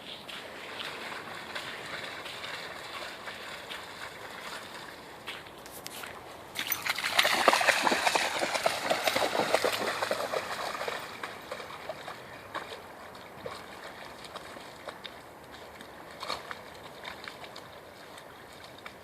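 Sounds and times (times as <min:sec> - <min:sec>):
splashing through shallow water: 0:00.0 - 0:19.0.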